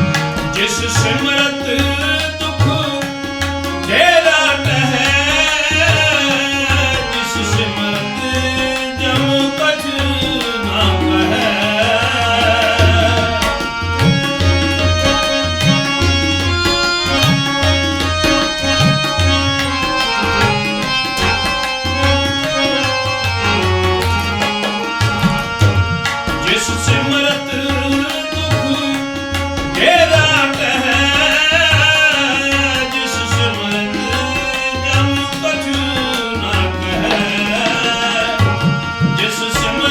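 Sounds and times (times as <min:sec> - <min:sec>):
harmonium melody: 0:00.0 - 0:39.9
tabla playing a rhythm: 0:00.0 - 0:39.9.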